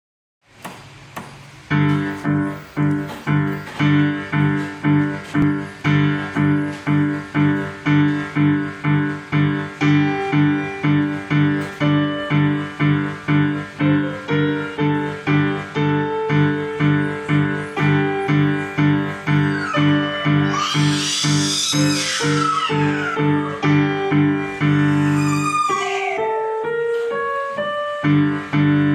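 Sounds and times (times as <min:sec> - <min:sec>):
digital piano playing: 0:01.4 - 0:28.9.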